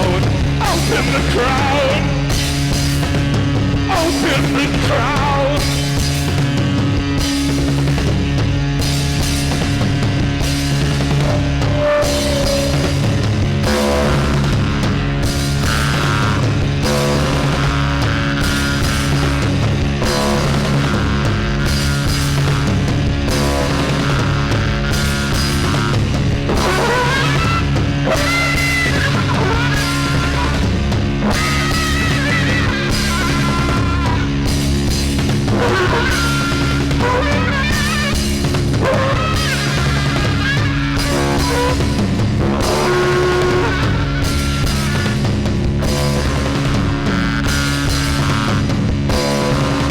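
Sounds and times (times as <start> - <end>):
drum kit beat: 0.0 - 49.9
guitar: 0.0 - 49.9
low drone: 9.2 - 49.9.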